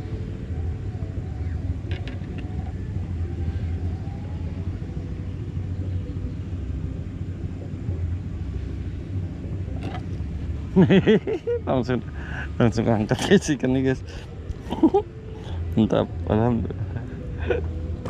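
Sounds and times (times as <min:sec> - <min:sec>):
faint hum: 0:00.0 - 0:18.0
low engine drone: 0:00.0 - 0:18.0.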